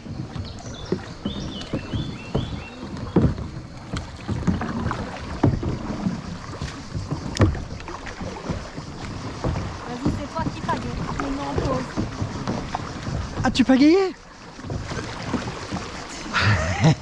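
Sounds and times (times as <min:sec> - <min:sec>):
paddles knocking on plastic canoe: 0:00.0 - 0:17.0
paddles splashing in water: 0:00.0 - 0:17.0.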